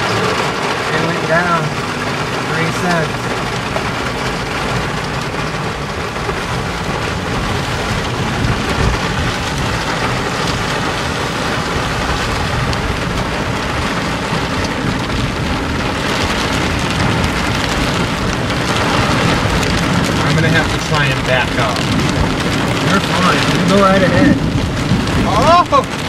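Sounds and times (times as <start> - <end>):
heavy rain on car roof: 0.0 - 26.0.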